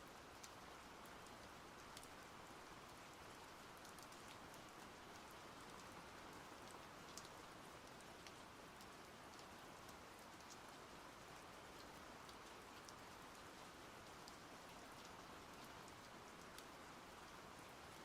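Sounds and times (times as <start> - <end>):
small drips and ticks: 0.0 - 18.0.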